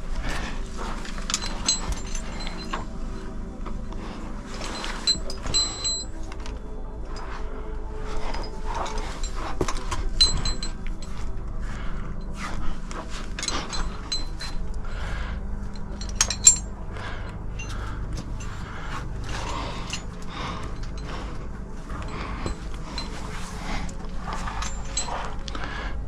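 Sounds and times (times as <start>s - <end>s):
metal climbing gear clinking: 0.0s - 25.7s.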